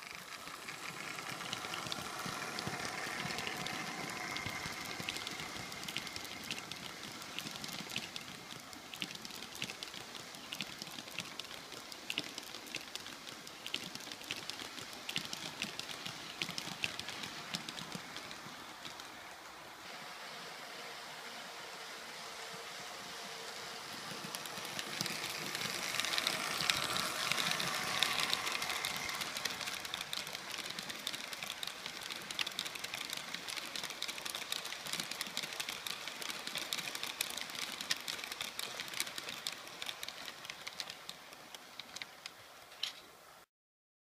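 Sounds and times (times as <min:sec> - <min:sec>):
wheels clicking over rail joints: 0:00.0 - 0:19.8, 0:23.3 - 0:43.3
model train rolling: 0:00.0 - 0:43.4.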